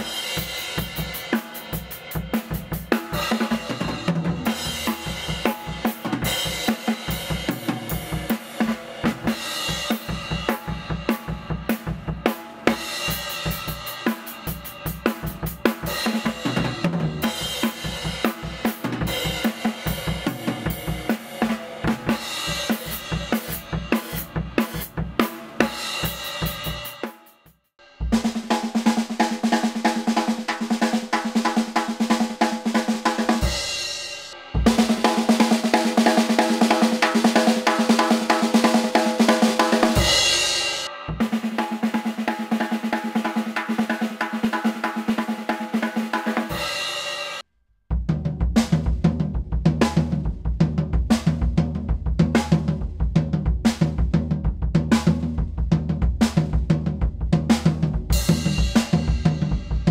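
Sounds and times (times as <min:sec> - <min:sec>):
drum kit playing fast strokes: 0:00.0 - 0:59.9.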